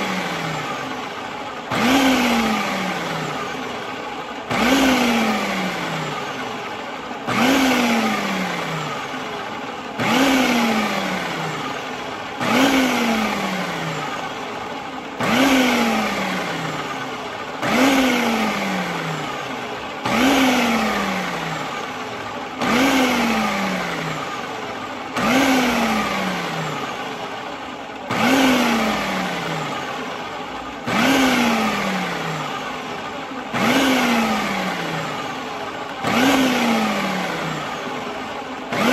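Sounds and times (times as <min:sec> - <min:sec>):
food processor pulsing: 0:00.0 - 0:38.9.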